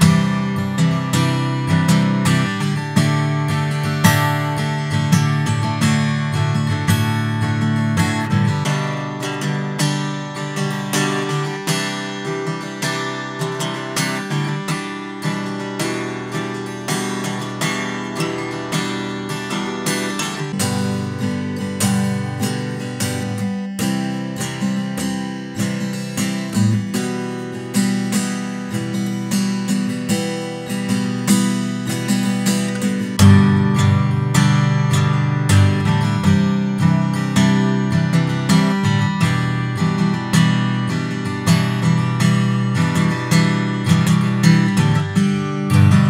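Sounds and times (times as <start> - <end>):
acoustic guitar strumming: 0.0 - 46.0.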